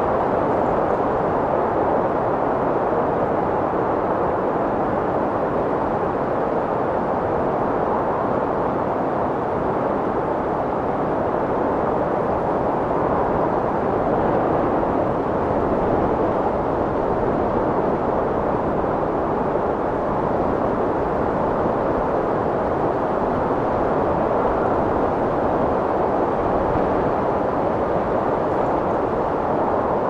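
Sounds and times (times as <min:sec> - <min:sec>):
strong wind roaring: 0:00.0 - 0:30.0.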